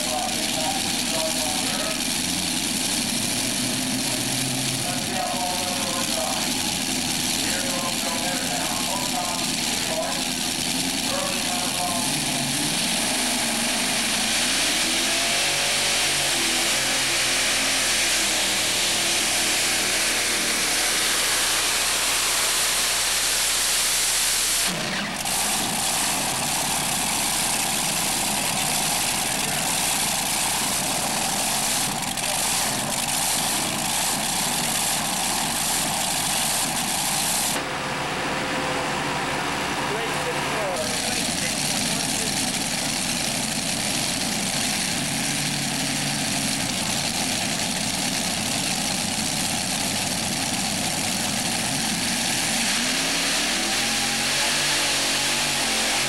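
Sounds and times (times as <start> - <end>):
tractor engines revving hard: 0.0 - 56.0.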